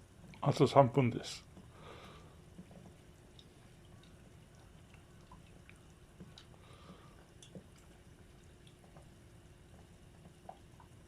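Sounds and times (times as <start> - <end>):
oil popping and crackling: 1.4 - 11.0.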